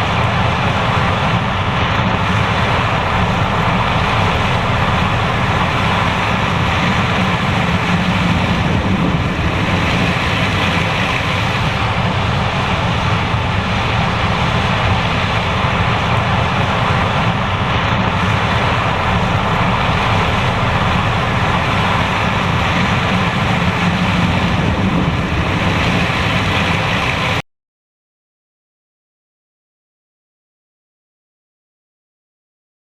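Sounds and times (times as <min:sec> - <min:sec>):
combine harvester running: 0:00.0 - 0:27.4.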